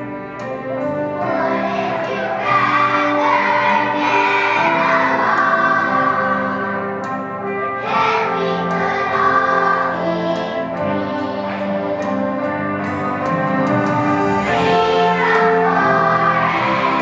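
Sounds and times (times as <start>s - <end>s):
children's choir singing: 0.0s - 17.0s
instrumental backing music: 0.0s - 17.0s.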